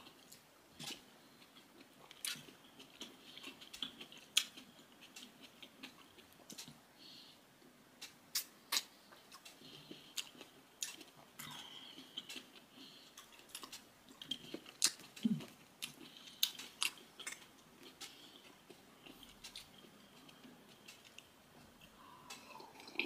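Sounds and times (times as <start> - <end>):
person chewing tomato: 0.0 - 6.8, 8.0 - 23.0.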